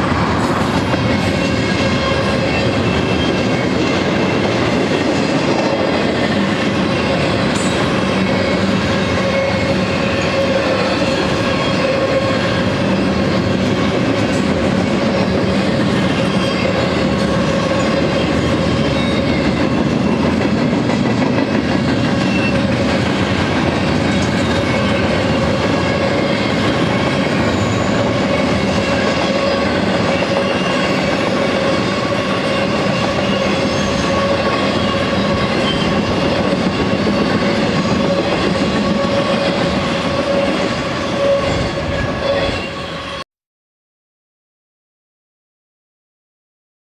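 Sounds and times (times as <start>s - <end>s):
freight train wheels rumbling on rails: 0.0s - 43.2s
wheels clickety-clack on rail joints: 0.0s - 43.2s.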